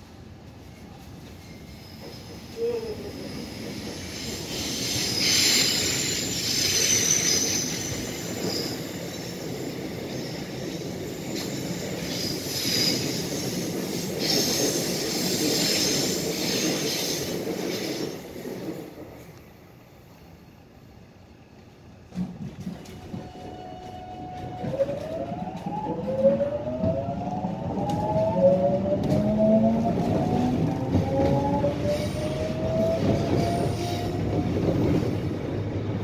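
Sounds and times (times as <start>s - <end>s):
rumble of train cars: 0.0s - 36.0s
train wheels squealing: 0.6s - 18.9s, 22.6s - 35.5s.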